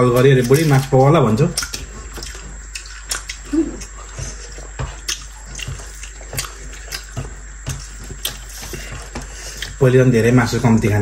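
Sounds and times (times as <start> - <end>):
chewing and lip-smacking: 0.1 - 9.8.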